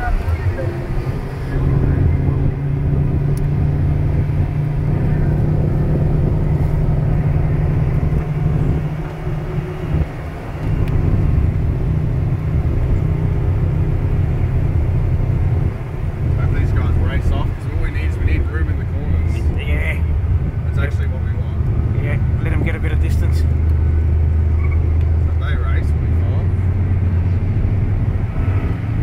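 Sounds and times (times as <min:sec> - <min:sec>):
car engine droning: 0:00.0 - 0:29.0.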